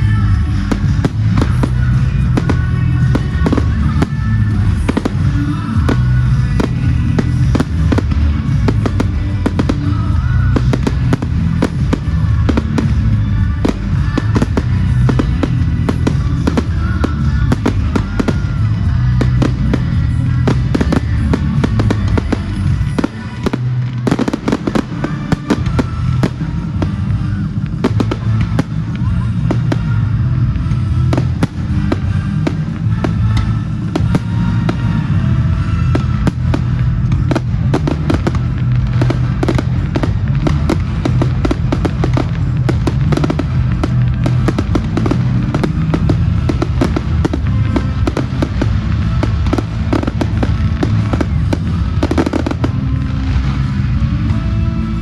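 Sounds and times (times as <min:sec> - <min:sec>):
fireworks banging and crackling: 0:00.0 - 0:55.0
music playing: 0:00.0 - 0:55.0.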